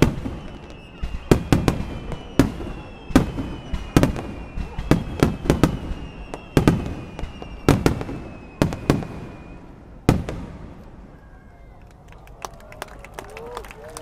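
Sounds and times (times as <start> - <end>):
fireworks bursting with echo: 0.0 - 11.4.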